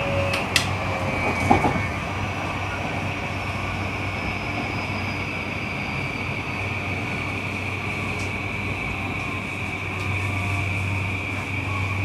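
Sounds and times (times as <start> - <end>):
train motor whine: 0.0 - 12.0
wheels rumbling on rails: 0.0 - 12.0.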